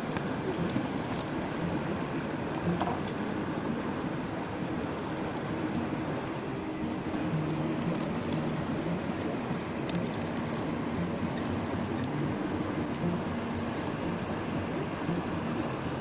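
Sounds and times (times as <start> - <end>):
light crackles and clicks: 0.0 - 16.0
steady rushing noise: 0.0 - 16.0.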